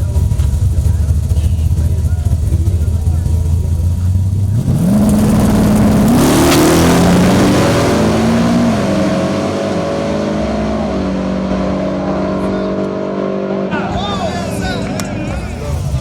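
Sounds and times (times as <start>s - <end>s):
drag racing engine accelerating: 0.1s - 16.0s.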